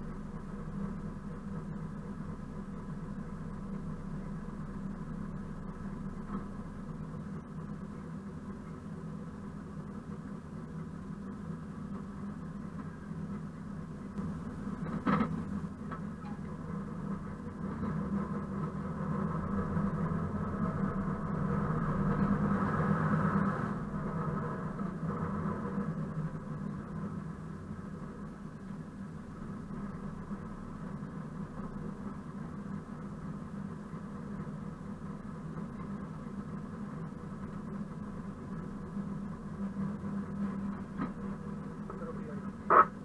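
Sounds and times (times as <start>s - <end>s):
locomotive diesel engine running: 0.0s - 43.0s.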